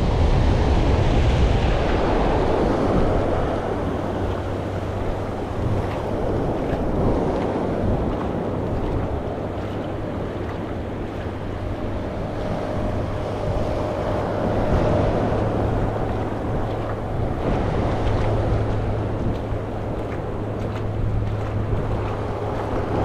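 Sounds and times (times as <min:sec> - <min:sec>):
ocean waves breaking on shore: 0:00.0 - 0:23.0
wind rumbling on microphone: 0:00.0 - 0:23.0.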